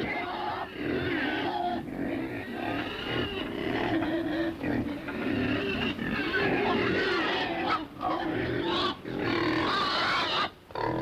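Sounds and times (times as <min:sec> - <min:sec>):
pigs grunting and squealing: 0:00.0 - 0:11.0.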